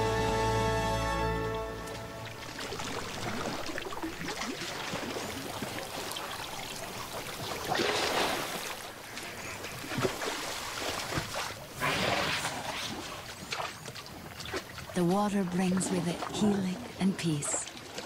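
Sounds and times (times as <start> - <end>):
water splashing and dribbling: 1.2 - 18.0
elephants drinking water: 1.6 - 18.0.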